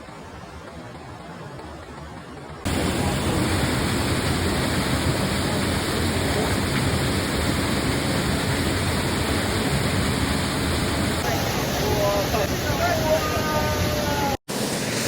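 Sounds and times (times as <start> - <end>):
waterfall rushing: 2.7 - 15.0.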